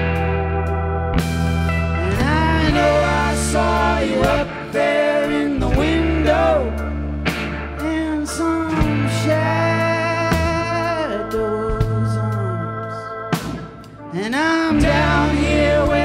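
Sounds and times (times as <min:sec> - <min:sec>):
bass guitar: 0:00.0 - 0:16.0
drums: 0:00.0 - 0:16.0
electric guitars: 0:00.0 - 0:16.0
keyboard: 0:00.0 - 0:16.0.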